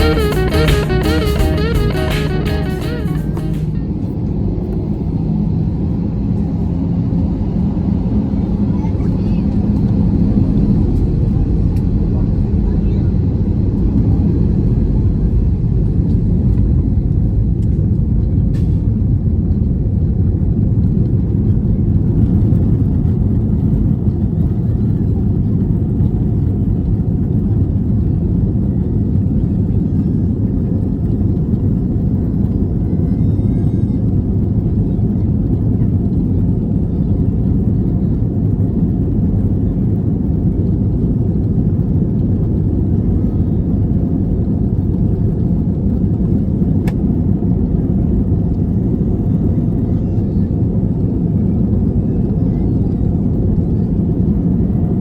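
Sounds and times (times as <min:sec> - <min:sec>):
airliner cabin jet engine noise: 0:00.0 - 0:55.0.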